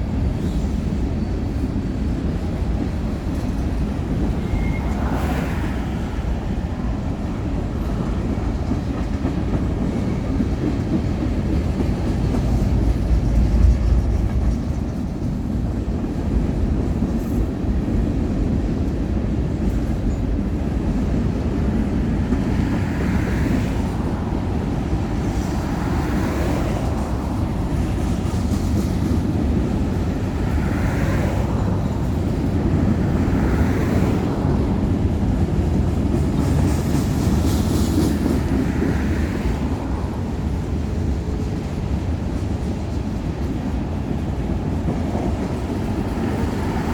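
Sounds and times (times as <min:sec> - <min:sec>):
train cars rattling: 0:00.0 - 0:46.9
train wheels rumbling on rail: 0:00.0 - 0:46.9.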